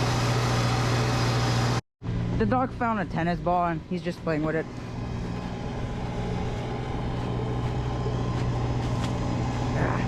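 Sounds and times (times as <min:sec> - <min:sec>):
snow removal machine engine humming: 0:00.0 - 0:10.0.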